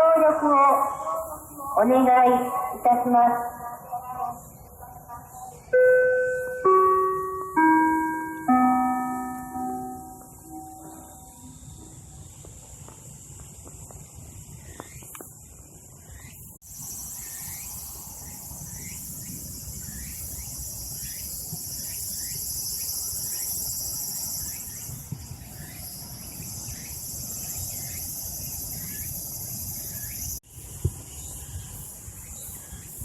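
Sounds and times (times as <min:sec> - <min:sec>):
short insect chirp: 0:00.2 - 0:33.0
insects buzzing: 0:06.4 - 0:33.0.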